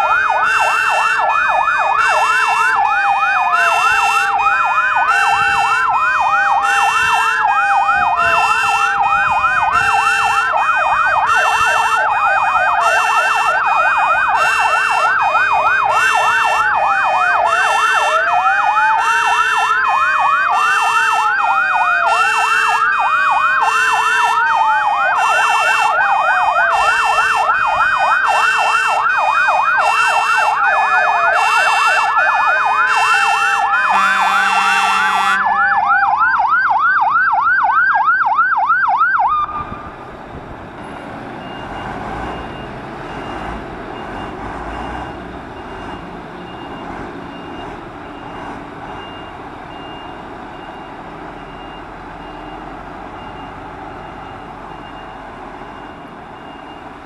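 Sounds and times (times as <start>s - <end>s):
fire engine sirens: 0.0s - 57.0s.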